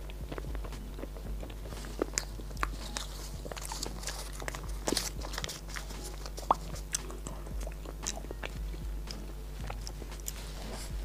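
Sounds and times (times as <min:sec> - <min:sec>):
plastic wrapping crinkling: 0:00.0 - 0:11.0
wet chewing and lip-smacking: 0:00.0 - 0:11.0.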